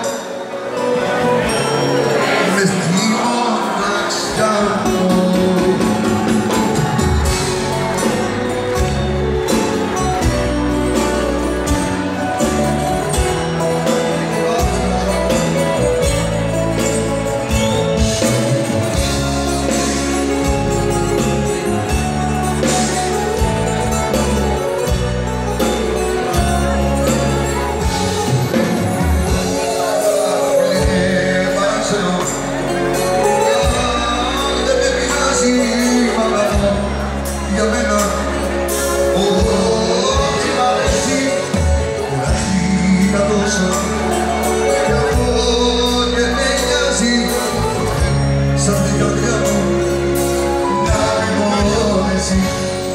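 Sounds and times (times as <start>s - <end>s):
person singing: 0.0s - 20.5s, 26.3s - 52.9s
loud live band music: 0.0s - 52.9s
deep bass line: 4.4s - 52.9s.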